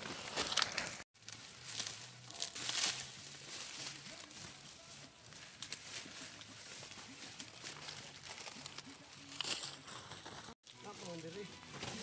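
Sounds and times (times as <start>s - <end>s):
dry corn stalks rustling: 0.0s - 12.0s.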